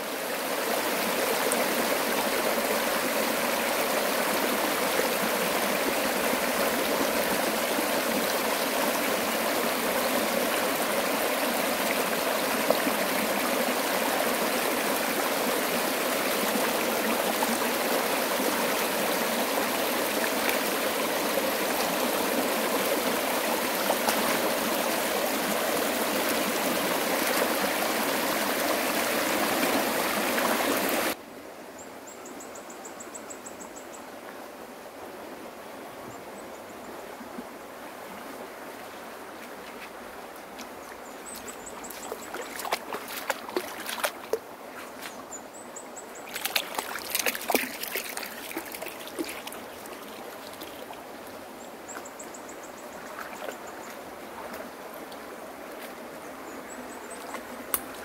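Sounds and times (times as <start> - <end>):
running water rushing: 0.0 - 31.2, 37.0 - 58.0.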